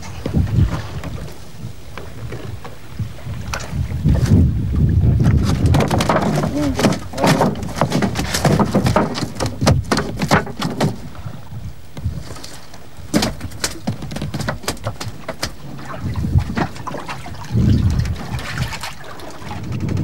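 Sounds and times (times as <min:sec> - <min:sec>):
fish thrashing on wooden planks: 0:03.5 - 0:19.6.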